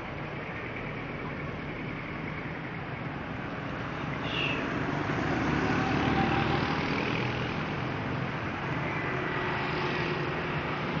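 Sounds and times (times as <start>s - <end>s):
road traffic rushing past: 0.0s - 11.0s.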